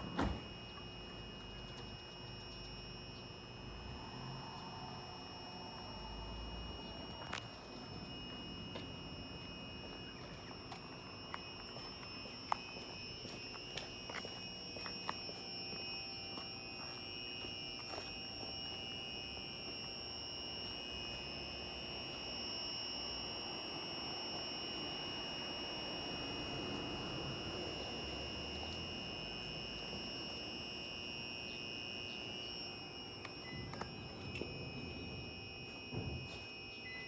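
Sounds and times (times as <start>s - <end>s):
high-pitched electronic tone: 0.0s - 37.0s.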